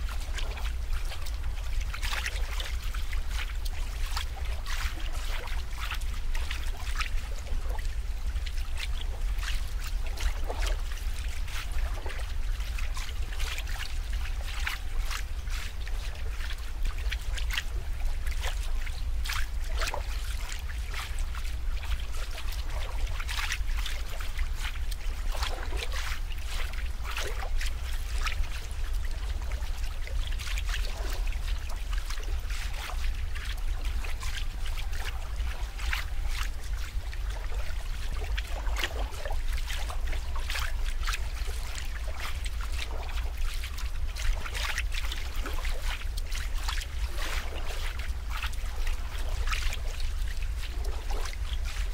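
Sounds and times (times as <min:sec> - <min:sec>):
water gurgling: 0:00.0 - 0:51.9
water trickling and splashing: 0:00.0 - 0:51.9.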